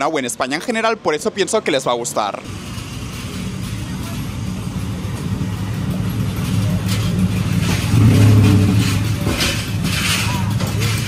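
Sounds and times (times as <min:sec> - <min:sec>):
vehicle engine humming: 0:01.2 - 0:11.0.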